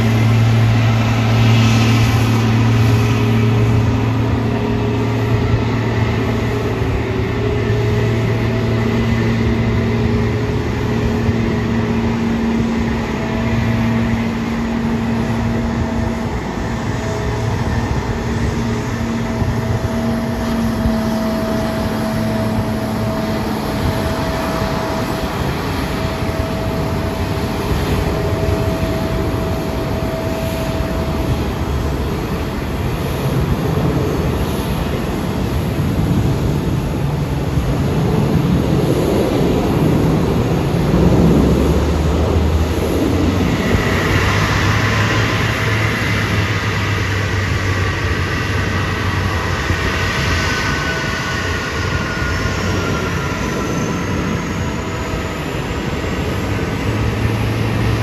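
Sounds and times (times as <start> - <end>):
jet engine roar: 0.0 - 58.0
steady hums: 0.0 - 58.0.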